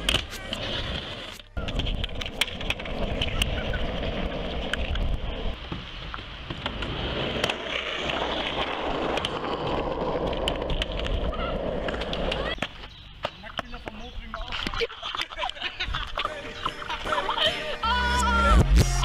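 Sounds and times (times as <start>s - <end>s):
skateboard clacks: 0.0s - 16.3s
skateboard wheels rolling: 0.0s - 18.4s.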